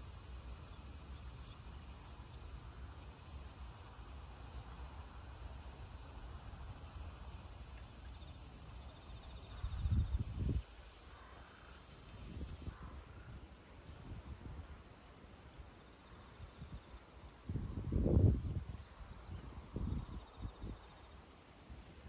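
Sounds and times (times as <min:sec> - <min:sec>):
insects chirping in trills: 0:00.0 - 0:22.0.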